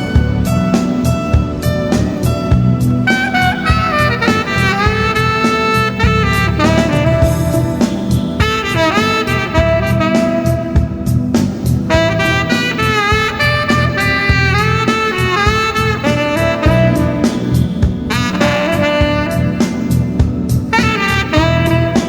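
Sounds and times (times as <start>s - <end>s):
backing track with bass and drums: 0.0s - 22.0s
tenor saxophone melody: 0.0s - 22.0s.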